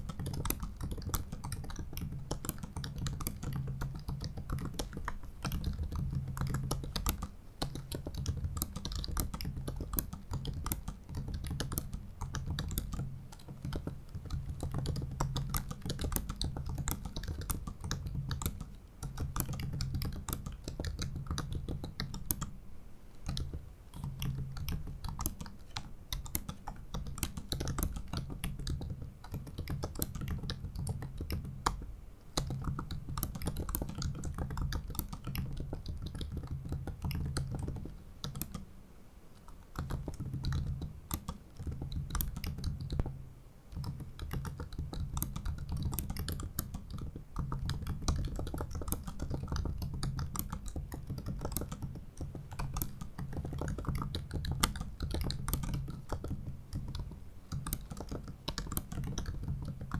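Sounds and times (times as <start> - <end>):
laptop keyboard typing: 0.0 - 38.7, 39.3 - 59.9.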